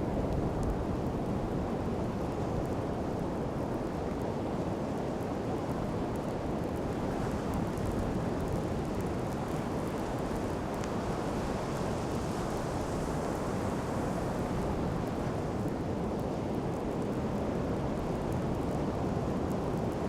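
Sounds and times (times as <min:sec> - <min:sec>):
bonfire crackling: 0:00.0 - 0:20.0
wind: 0:00.0 - 0:20.0.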